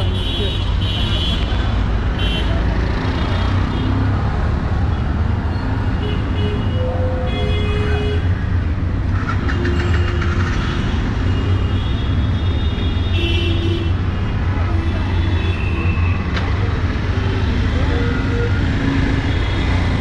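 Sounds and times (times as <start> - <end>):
traffic engines rumbling: 0.0 - 20.0.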